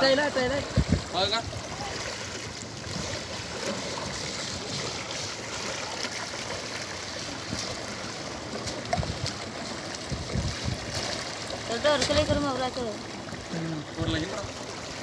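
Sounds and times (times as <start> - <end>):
sea water splashing: 0.0 - 15.0.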